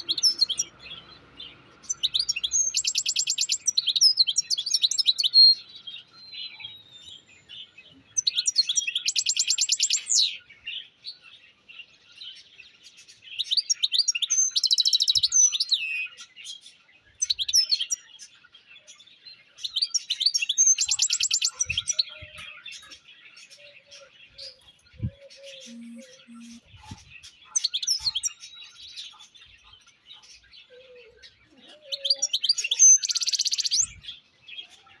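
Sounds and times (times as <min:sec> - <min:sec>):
goldfinch twittering song: 0:00.0 - 0:35.0.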